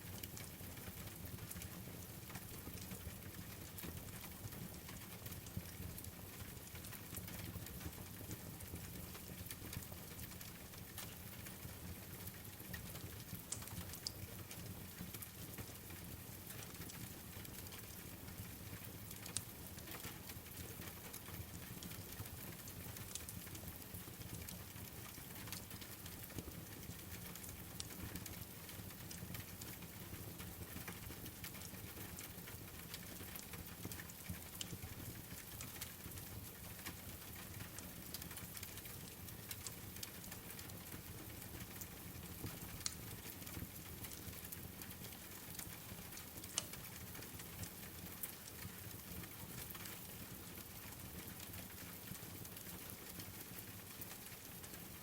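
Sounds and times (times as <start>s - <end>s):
wood fire crackling and popping: 0.1s - 2.8s, 3.6s - 55.0s.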